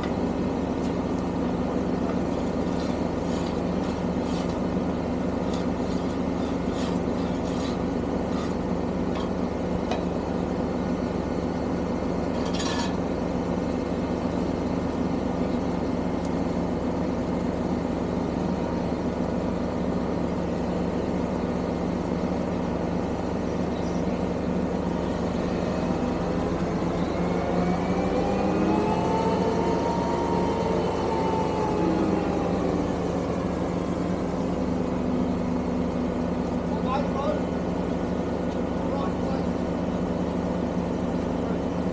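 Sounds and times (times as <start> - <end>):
lorry engine running: 0.0 - 41.9.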